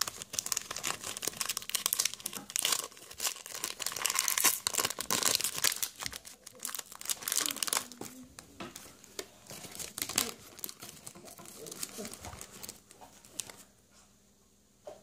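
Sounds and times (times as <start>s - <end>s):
foil pack tearing open: 0.0s - 8.1s, 9.5s - 13.6s
foil pack crinkling: 0.0s - 13.7s.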